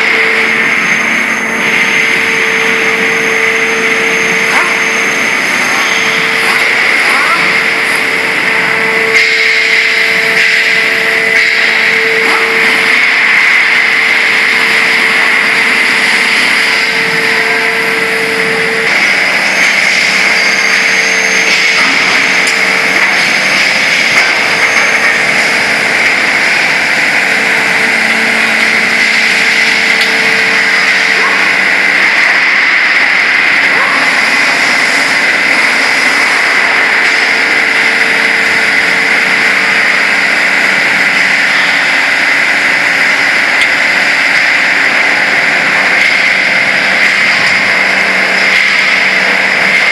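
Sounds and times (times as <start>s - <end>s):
factory machinery humming: 0.0s - 49.9s.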